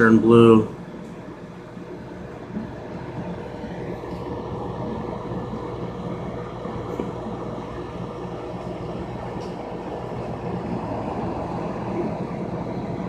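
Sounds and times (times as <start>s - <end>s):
aquarium pump bubbling hiss: 0.0s - 13.0s
steady low hum: 0.0s - 13.0s.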